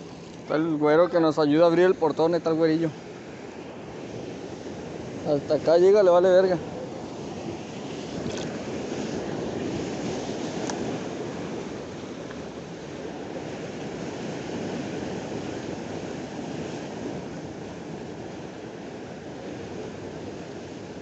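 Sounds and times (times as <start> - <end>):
ocean surf breaking on rocks: 0.0 - 21.0.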